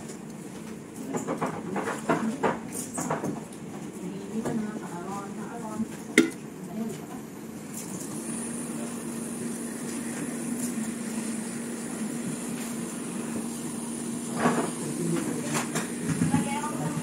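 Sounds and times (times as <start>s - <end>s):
hot-air gun fan humming: 0.0s - 17.0s.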